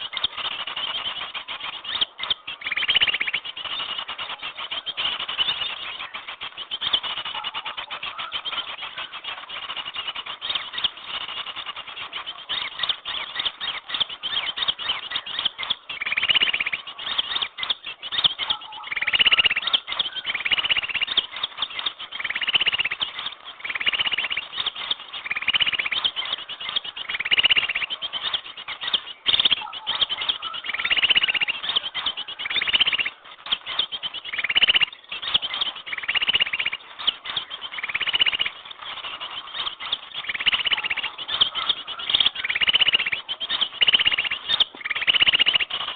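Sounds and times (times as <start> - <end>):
bird ticking chatter: 0.0 - 45.9
bird twittering chirps: 0.0 - 45.9.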